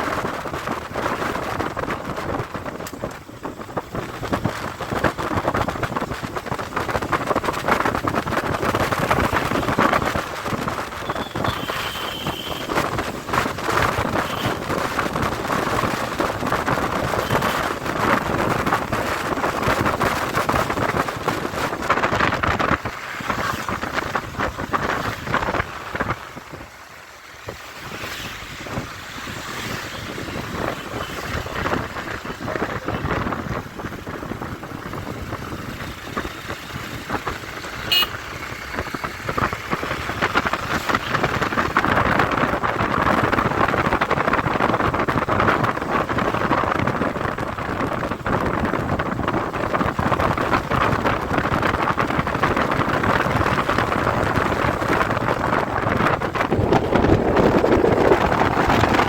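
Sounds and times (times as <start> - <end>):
rushing road noise: 0.0 - 59.0
wind buffeting microphone: 0.0 - 59.0.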